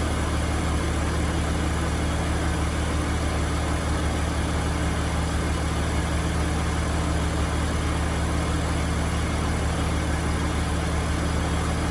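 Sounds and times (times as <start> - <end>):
car engine running with low hum: 0.0 - 11.9.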